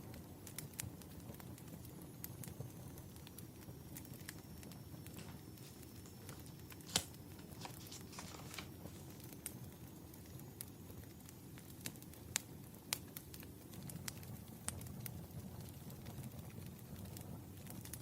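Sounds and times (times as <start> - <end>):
firewood crackling: 0.0 - 18.0.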